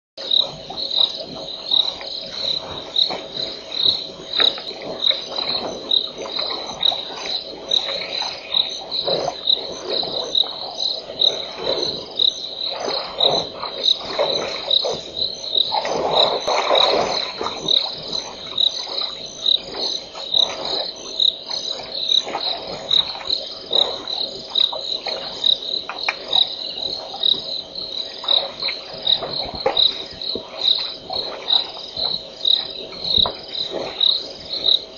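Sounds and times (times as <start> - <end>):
high insect chirping: 0.2 - 34.9
low rough insect chorus: 0.2 - 34.9.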